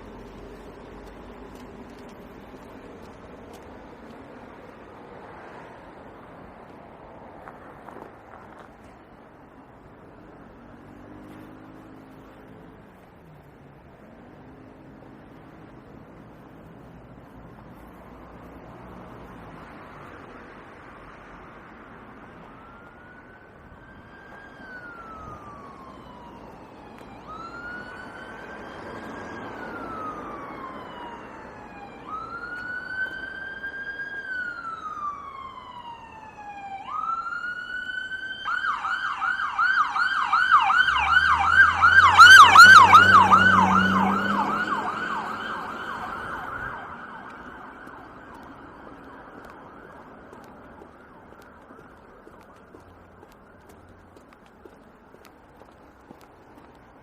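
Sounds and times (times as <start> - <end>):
vehicle engine rumbling: 0.0 - 35.8, 40.3 - 57.0
emergency vehicle siren: 8.8 - 57.0.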